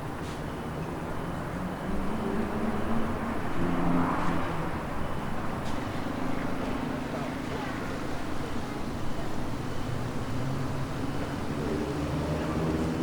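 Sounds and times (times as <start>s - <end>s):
continuous rush of noise: 0.0s - 13.0s.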